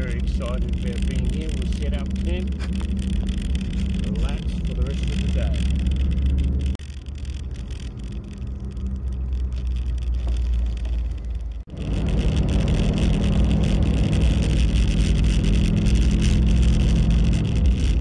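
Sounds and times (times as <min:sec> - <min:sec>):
engine and tyre hum in cabin: 0:00.0 - 0:18.0.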